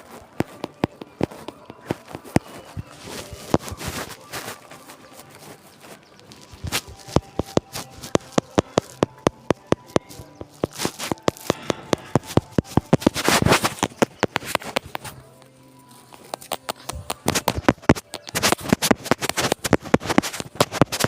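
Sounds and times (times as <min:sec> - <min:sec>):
sharp cracks and pops: 0:00.0 - 0:21.0.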